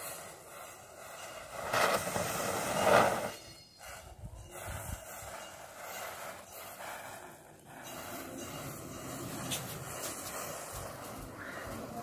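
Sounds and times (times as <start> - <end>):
matches flaring with fizzing hiss: 0.0 - 12.0.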